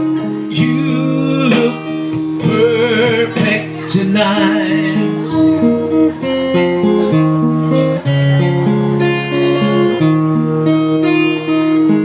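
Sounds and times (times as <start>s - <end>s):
acoustic guitar notes ringing: 0.0s - 12.0s.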